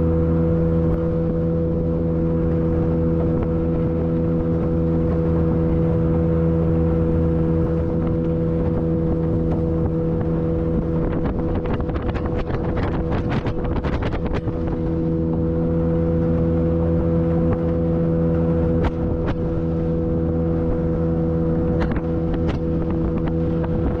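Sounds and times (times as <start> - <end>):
outboard engine running: 0.0 - 24.0
water slapping the hull: 0.0 - 24.0.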